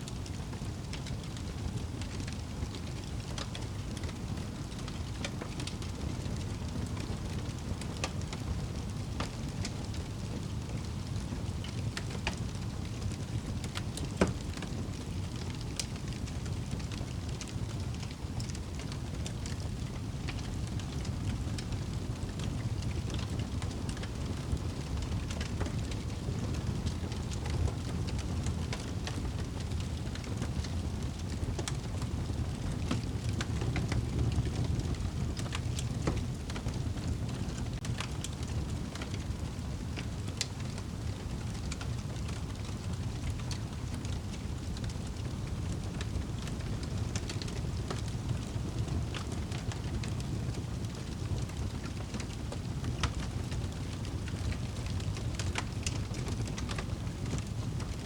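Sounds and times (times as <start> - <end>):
fire crackles and pops: 0.0 - 58.0
fire flames rumbling: 0.0 - 58.0.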